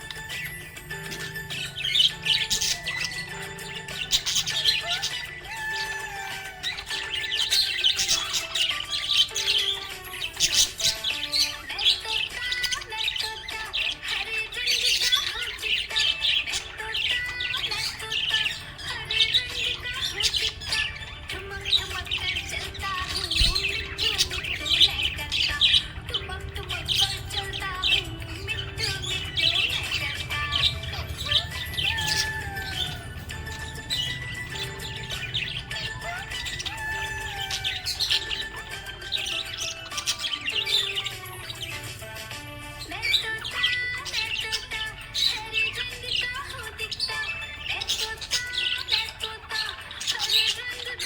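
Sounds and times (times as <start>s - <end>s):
background music with held notes: 0.0s - 51.0s
budgerigars chirping and chattering: 0.0s - 51.0s.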